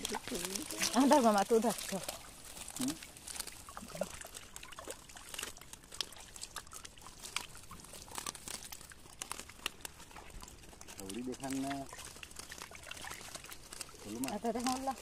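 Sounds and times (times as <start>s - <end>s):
net mesh rustling: 0.0s - 15.0s.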